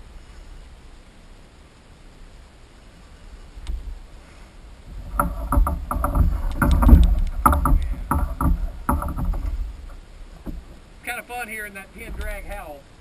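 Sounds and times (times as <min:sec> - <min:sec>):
low rumble: 0:00.0 - 0:11.1.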